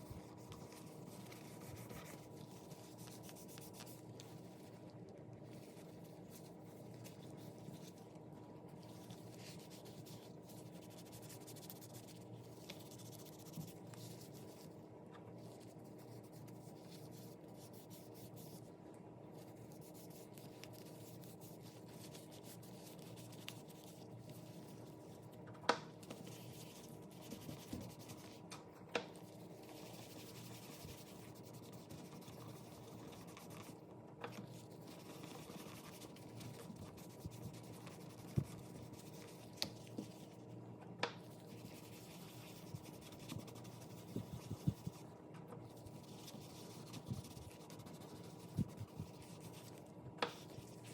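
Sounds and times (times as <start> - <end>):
low steady hum: 0.0 - 50.9.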